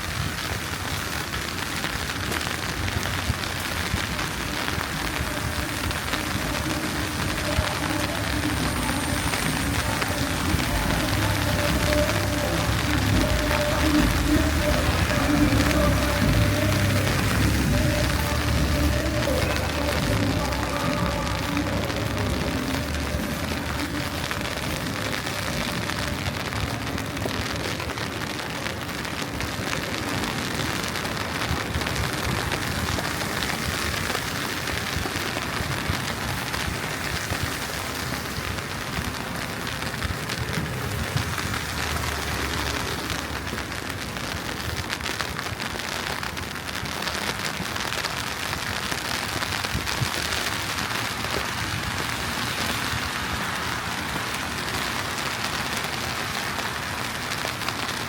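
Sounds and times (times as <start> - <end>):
hiss of wet slushy street: 0.0 - 58.0
traffic rumble: 0.0 - 58.0.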